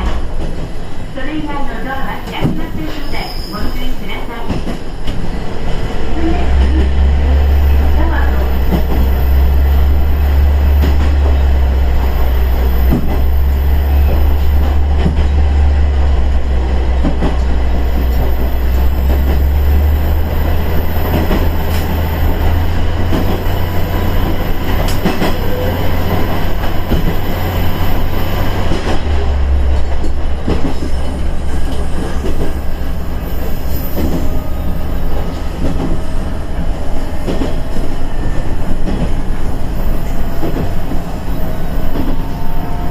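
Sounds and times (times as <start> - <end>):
diesel railcar engine drone: 0.0 - 42.9
wheel and rail noise: 2.2 - 42.9.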